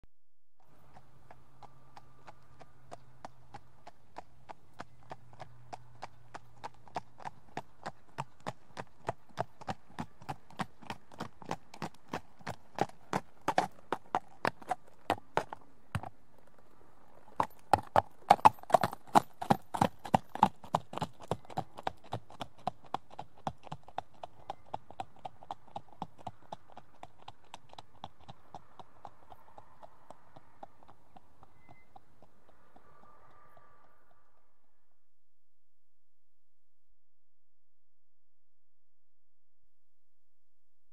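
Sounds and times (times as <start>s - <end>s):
horse hooves clip-clopping on tarmac: 0.6s - 33.6s.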